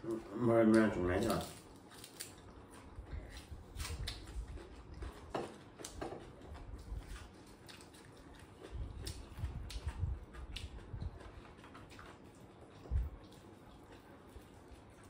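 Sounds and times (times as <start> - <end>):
chewing and crunching greens: 0.0 - 15.0.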